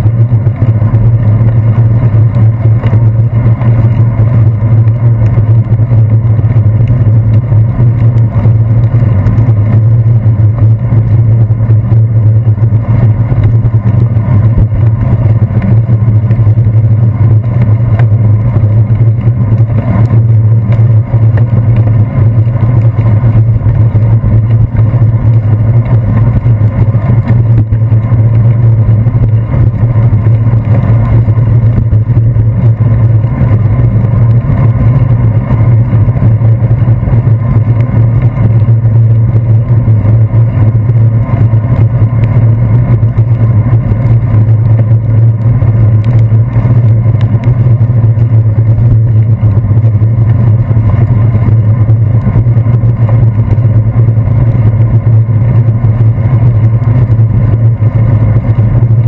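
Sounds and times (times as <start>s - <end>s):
bicycle road vibration rumble: 0.0s - 59.0s
wind noise: 0.0s - 59.0s.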